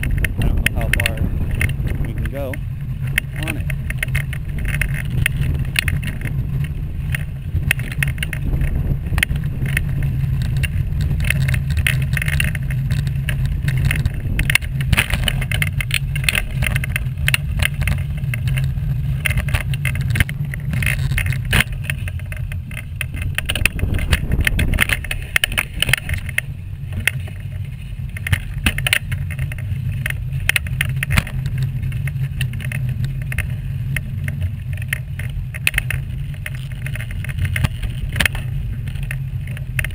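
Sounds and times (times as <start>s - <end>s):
wheelchair rolling rumble: 0.0s - 39.9s
wheels rattling and clicking: 0.0s - 39.9s.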